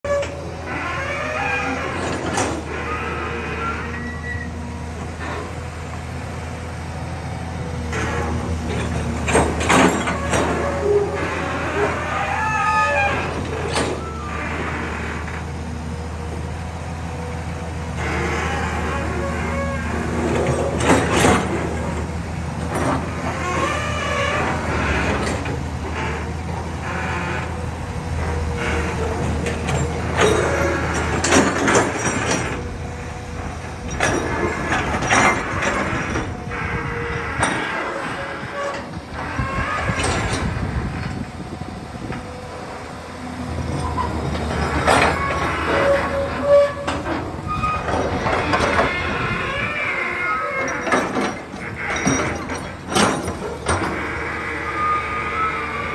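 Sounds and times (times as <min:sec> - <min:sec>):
high metal squeals: 0:00.1 - 0:05.6, 0:07.9 - 0:15.5, 0:17.9 - 0:41.3, 0:43.5 - 0:55.9
excavator diesel engine running: 0:00.1 - 0:55.9
hydraulic whine: 0:00.1 - 0:55.9.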